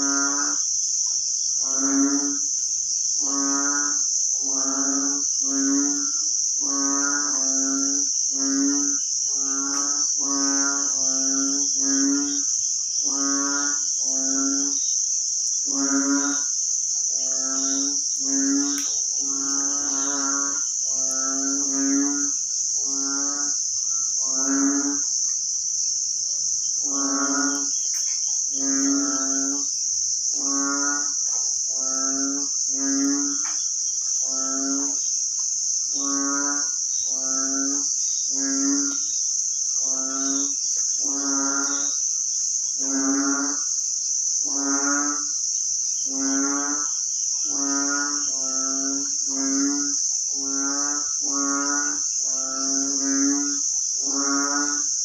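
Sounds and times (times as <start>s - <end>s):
frog calling: 0.0s - 2.5s, 3.2s - 15.0s, 15.6s - 55.0s
insects droning: 0.0s - 55.0s.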